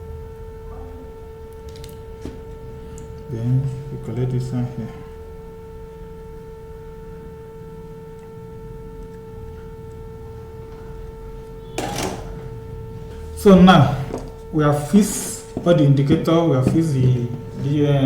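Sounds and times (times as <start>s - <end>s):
electrical whine: 0.0s - 18.0s.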